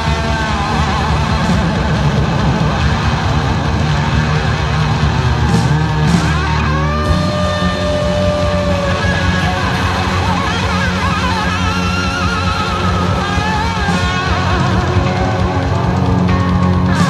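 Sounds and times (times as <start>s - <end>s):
thrash metal band playing: 0.0s - 17.0s.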